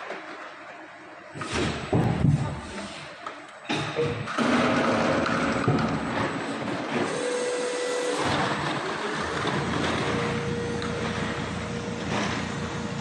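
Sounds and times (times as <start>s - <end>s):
machine whir and hiss: 0.0s - 13.0s
faint machine whine: 2.2s - 13.0s.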